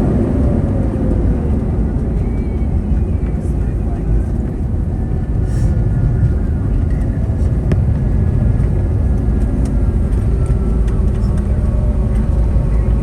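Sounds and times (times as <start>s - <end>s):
aircraft cabin rumble: 0.0s - 13.0s
faint whining tones: 0.0s - 13.0s.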